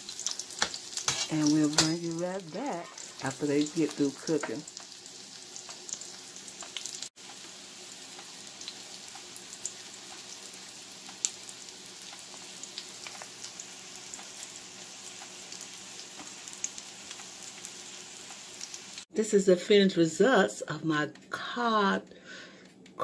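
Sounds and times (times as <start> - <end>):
oil sizzling and crackling: 0.0 - 19.1.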